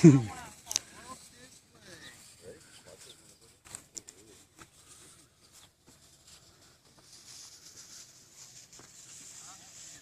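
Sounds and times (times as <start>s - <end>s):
faint distant voices: 0.0s - 10.0s
light steady hiss: 0.0s - 10.0s.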